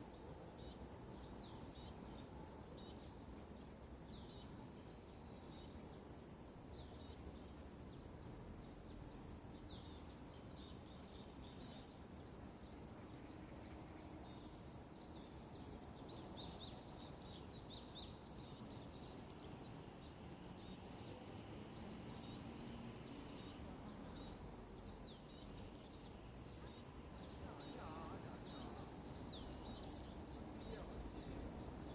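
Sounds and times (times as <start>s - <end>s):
background hiss: 0.0s - 31.9s
birds chirping: 0.0s - 31.9s.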